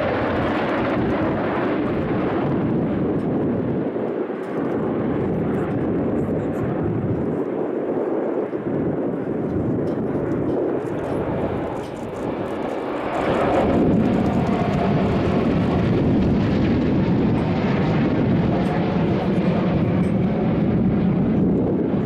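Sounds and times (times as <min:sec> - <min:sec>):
jet planes flying past: 0:00.0 - 0:22.0.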